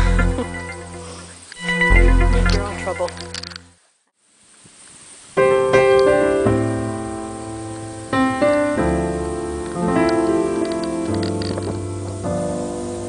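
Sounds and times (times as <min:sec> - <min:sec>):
piano chords: 0:00.0 - 0:03.8, 0:05.4 - 0:13.0.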